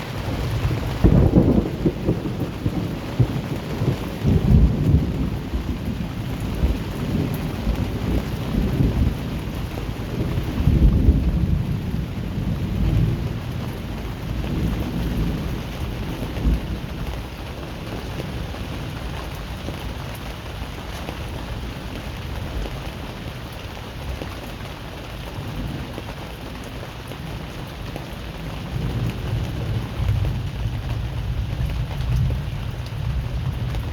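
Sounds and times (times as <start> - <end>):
thunder rumbling: 0.0 - 20.2, 25.4 - 33.9
steady rain: 0.0 - 33.9.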